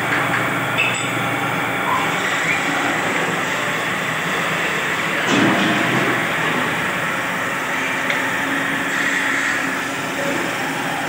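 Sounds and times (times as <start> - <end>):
wood lathe running: 0.0 - 5.2, 6.2 - 11.0.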